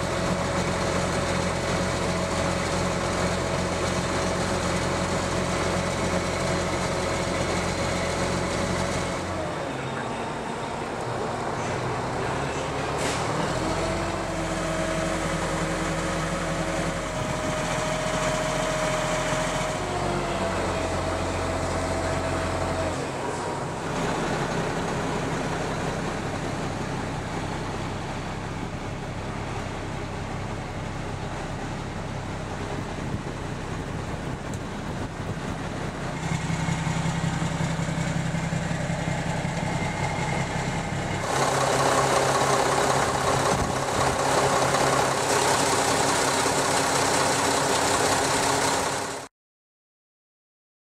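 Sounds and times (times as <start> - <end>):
diesel truck engine idling: 0.0 - 49.3.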